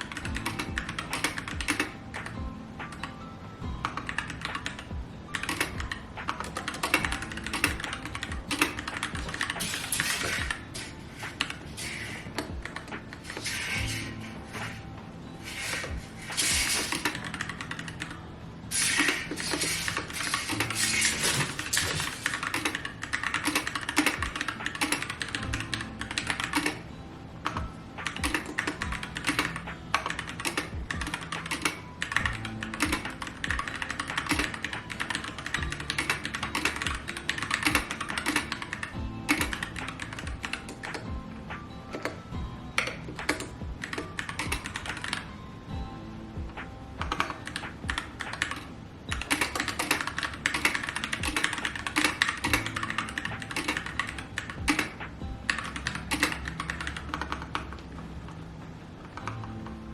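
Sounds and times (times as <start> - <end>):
fast keyboard typing: 0.0 - 3.2, 3.8 - 14.8, 15.4 - 45.3, 47.0 - 58.4
background music: 0.0 - 59.9.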